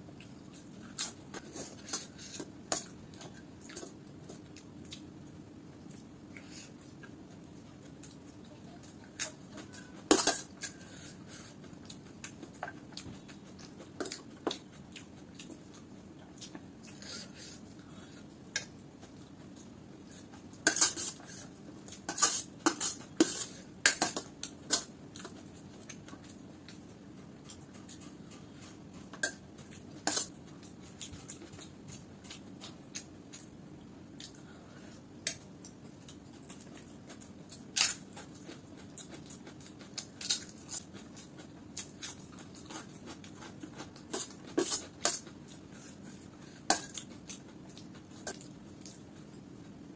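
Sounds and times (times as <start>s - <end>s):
soft eating sounds: 0.0s - 49.9s.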